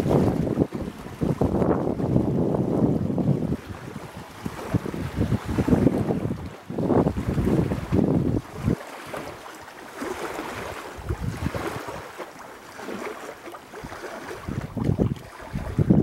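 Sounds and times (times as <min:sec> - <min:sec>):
wind buffeting microphone: 0:00.0 - 0:09.4, 0:10.0 - 0:13.1, 0:13.7 - 0:16.0
waves lapping on rocky shore: 0:00.0 - 0:16.0.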